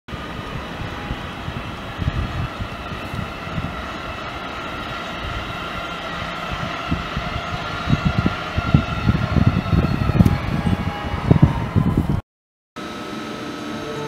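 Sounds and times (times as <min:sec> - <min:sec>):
electric locomotive drone: 0:00.1 - 0:12.2, 0:12.8 - 0:14.0
low rumbling: 0:00.1 - 0:12.2.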